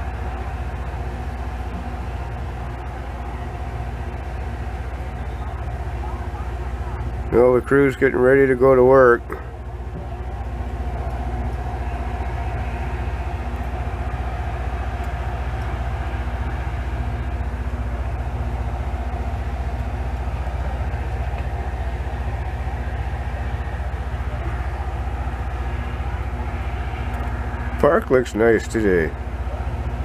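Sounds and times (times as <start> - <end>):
diesel engines humming: 0.0 - 30.0.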